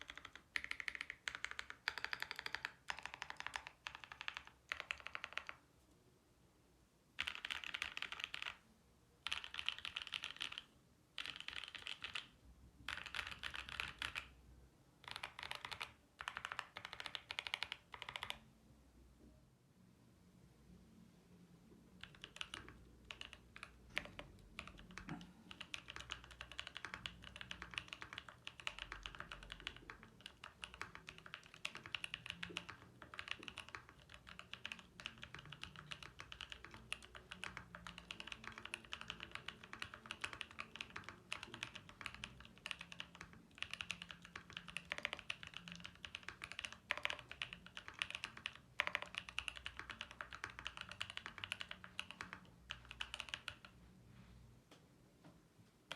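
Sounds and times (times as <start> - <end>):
fast typing on mechanical keyboard: 0.0 - 5.6, 7.2 - 8.6, 9.2 - 14.4, 15.0 - 18.4, 22.0 - 53.8.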